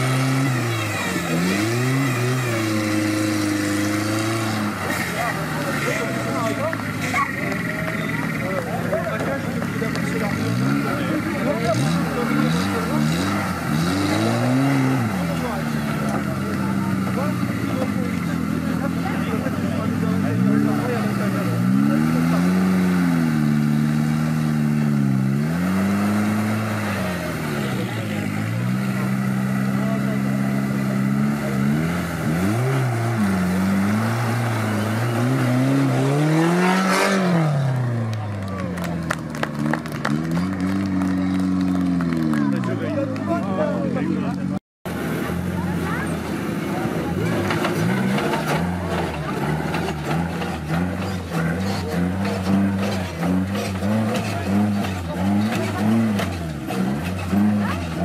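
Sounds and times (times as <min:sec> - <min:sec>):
engine revving under load: 0:00.0 - 0:58.0.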